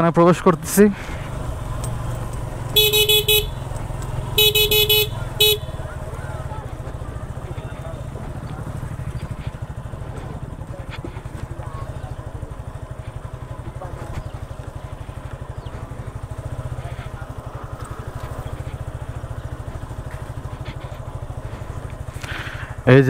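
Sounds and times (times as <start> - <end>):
motorcycle engine running: 0.2 - 23.0.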